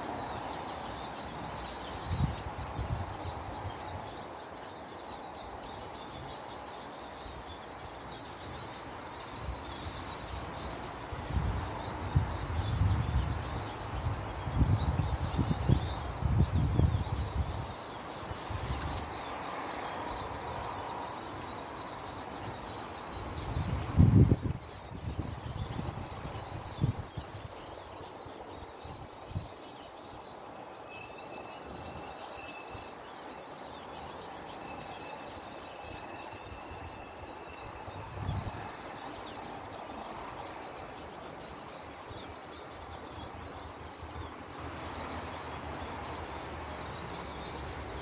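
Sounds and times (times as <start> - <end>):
songbirds chirping and twittering: 0.0 - 48.0.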